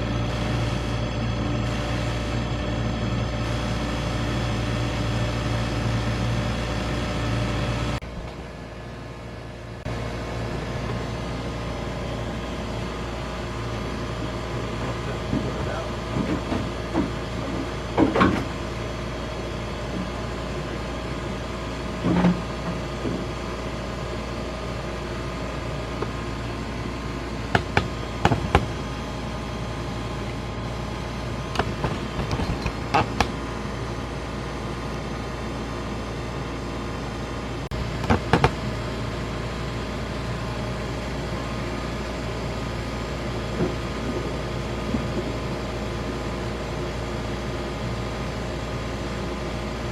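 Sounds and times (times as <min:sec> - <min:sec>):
ice machine humming: 0:00.0 - 0:49.9.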